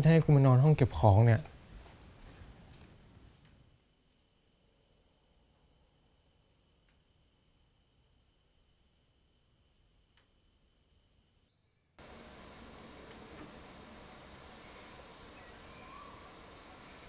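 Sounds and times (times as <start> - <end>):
crickets chirping: 1.2 - 17.0.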